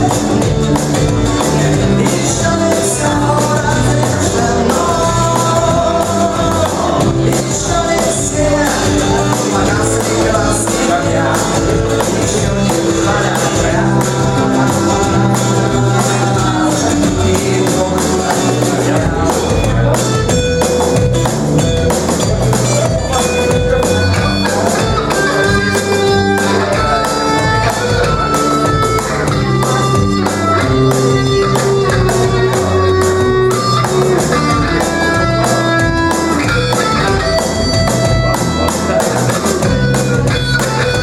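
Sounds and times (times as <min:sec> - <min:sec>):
drums and cymbals: 0:00.0 - 0:41.0
electric bass guitar: 0:00.0 - 0:41.0
live rock band playing: 0:00.0 - 0:41.0.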